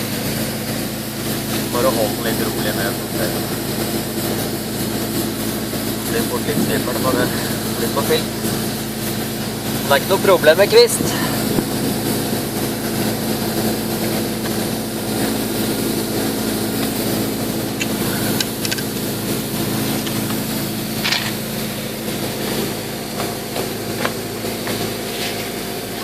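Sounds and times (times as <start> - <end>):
dry ice blasting hiss: 0.0 - 26.0
machine humming: 0.0 - 26.0.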